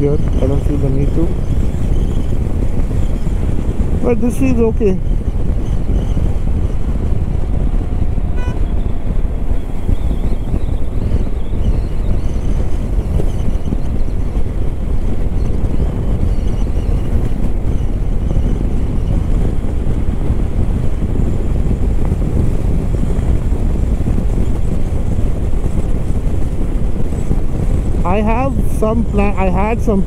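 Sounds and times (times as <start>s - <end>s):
motorcycle engine cruising: 0.0s - 29.8s
wind rushing on microphone: 0.0s - 30.0s.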